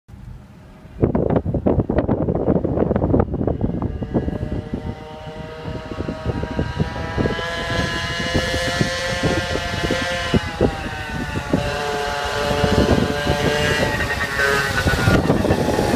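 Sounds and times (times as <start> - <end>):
wind buffeting microphone: 0.1 - 15.9
scooter engine buzzing whine: 0.3 - 15.9.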